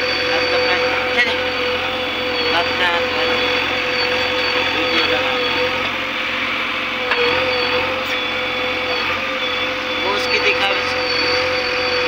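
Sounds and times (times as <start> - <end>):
constant hydraulic whine: 0.0 - 12.0
diesel engines running: 0.0 - 12.0.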